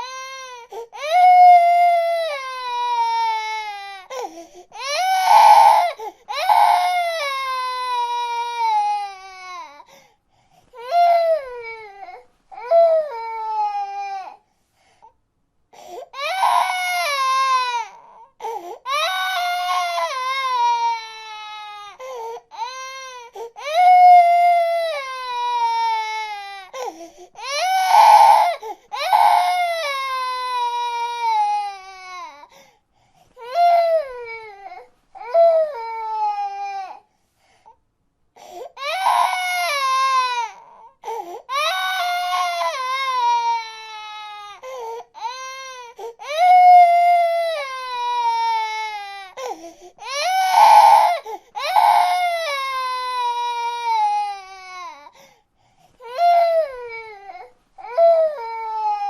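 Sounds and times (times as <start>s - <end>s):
baby crying: 0.0s - 9.9s, 10.8s - 14.4s, 16.1s - 32.6s, 33.4s - 37.0s, 38.4s - 55.2s, 56.0s - 59.0s.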